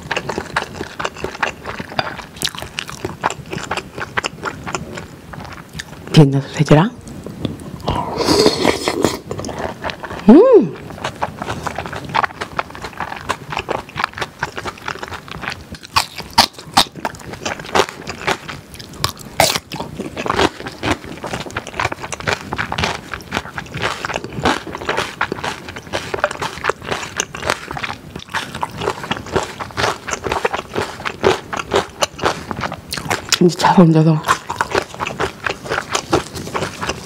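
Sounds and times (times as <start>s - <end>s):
chewing food with crunches: 0.0s - 6.4s, 7.0s - 37.0s.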